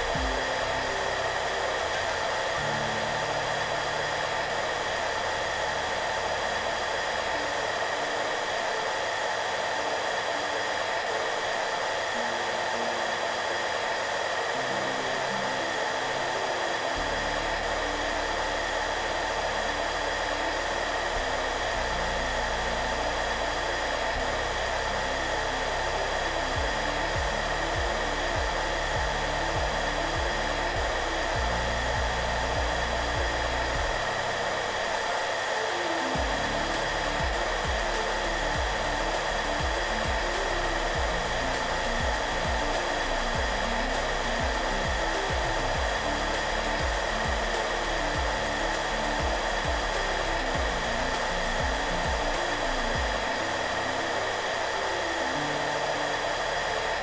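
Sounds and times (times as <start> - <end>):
hairdryer running: 0.0 - 57.0
soft background music: 0.0 - 57.0.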